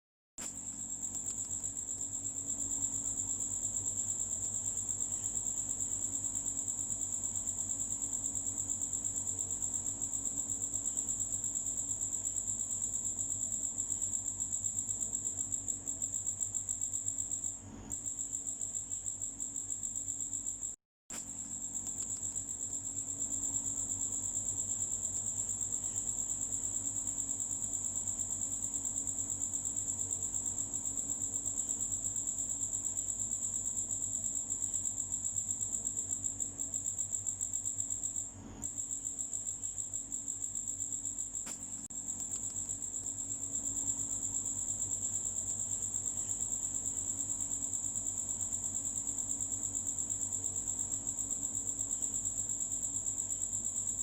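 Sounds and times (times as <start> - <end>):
cricket chirping: 0.4 - 54.0.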